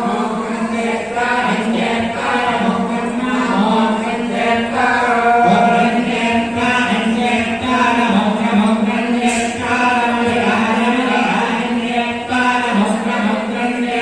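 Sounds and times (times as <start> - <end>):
women chanting in unison: 0.0 - 14.0.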